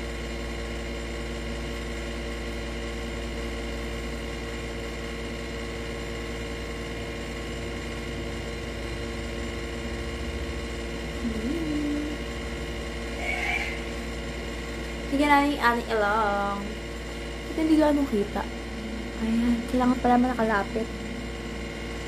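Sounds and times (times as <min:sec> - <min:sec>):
air conditioner humming: 0:00.0 - 0:22.0.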